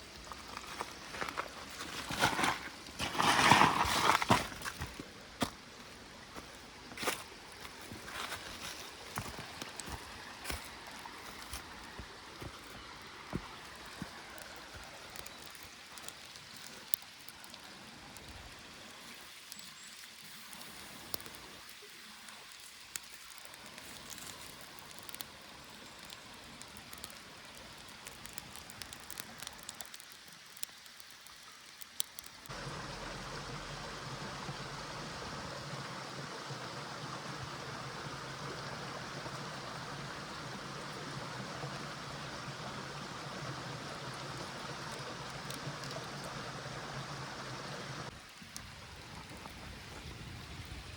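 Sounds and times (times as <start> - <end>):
stream water running: 0.0 - 50.9.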